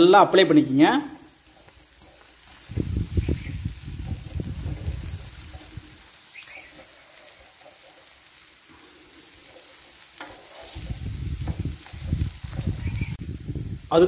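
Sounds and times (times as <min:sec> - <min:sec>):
dosa sizzling on a griddle: 0:00.0 - 0:14.0.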